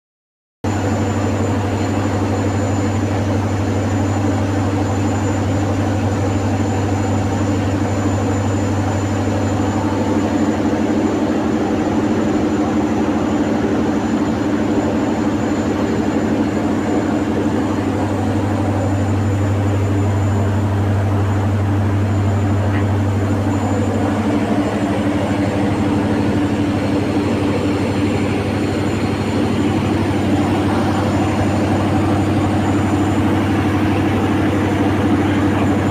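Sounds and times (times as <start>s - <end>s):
large engine running steadily: 0.6s - 35.9s.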